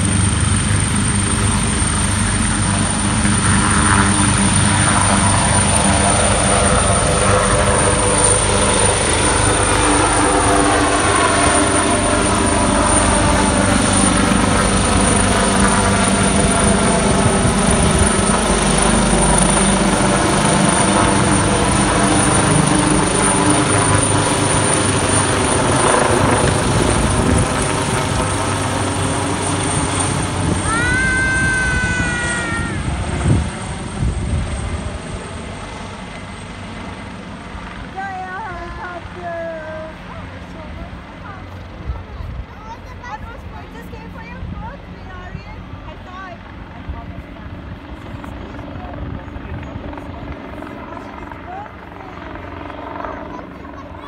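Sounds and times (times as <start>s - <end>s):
helicopter turbine whine and rotor beat: 0.0s - 54.0s.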